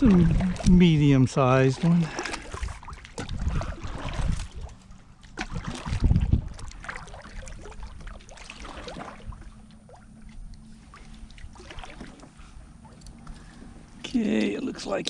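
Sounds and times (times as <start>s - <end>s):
light water sounds: 0.0s - 15.0s
low steady rumble: 0.0s - 15.0s.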